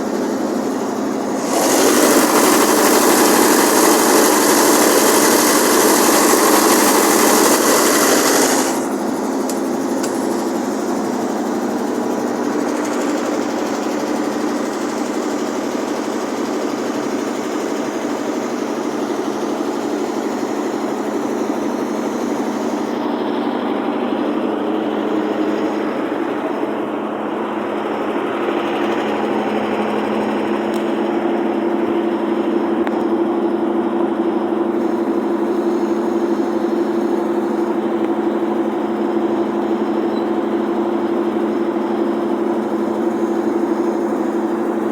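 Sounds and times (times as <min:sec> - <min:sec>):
generator engine humming: 0:00.0 - 0:44.9.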